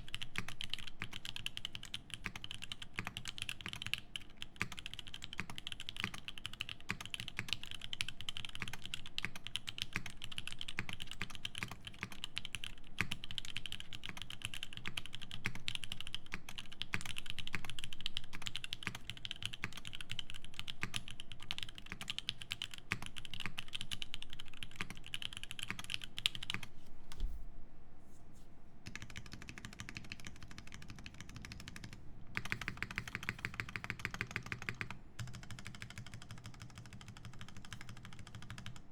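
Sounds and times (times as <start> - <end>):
fast typing on mechanical keyboard: 0.0 - 26.7, 28.8 - 38.9.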